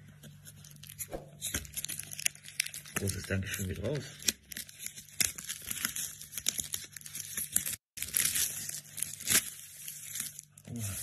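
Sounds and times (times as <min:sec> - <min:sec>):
plastic wrap tearing and crinkling: 0:00.4 - 0:11.0.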